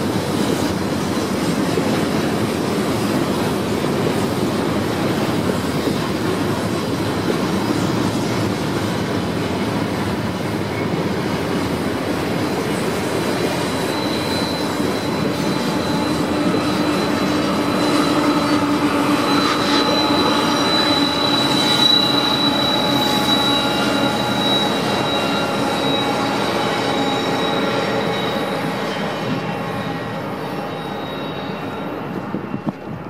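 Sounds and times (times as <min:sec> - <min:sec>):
diesel locomotive engine: 0:00.0 - 0:33.0
steel wheels rumbling on rail: 0:00.0 - 0:33.0
high wheel squeal: 0:02.9 - 0:33.0.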